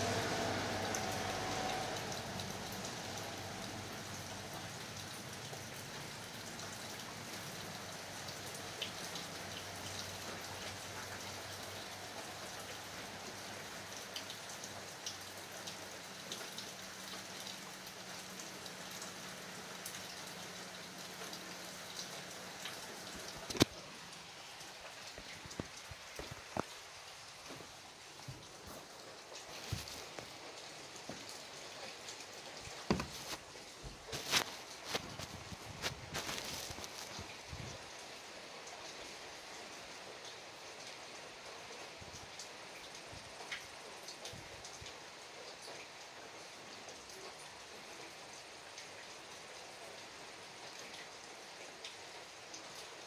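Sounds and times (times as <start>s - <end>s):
raindrops ticking on surface: 0.0s - 53.0s
steady rain falling: 0.0s - 53.0s.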